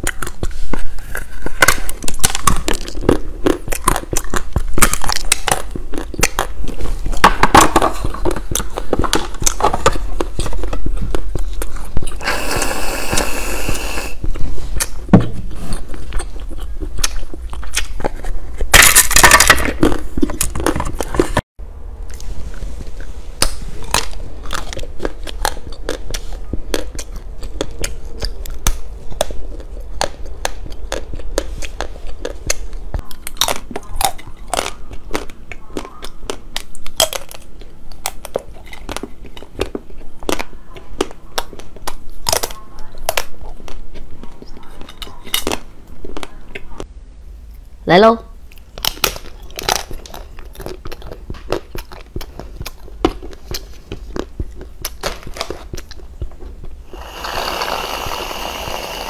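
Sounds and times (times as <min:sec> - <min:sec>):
crunching hard candy: 0:00.0 - 0:21.4, 0:22.9 - 0:46.7, 0:48.5 - 0:59.0.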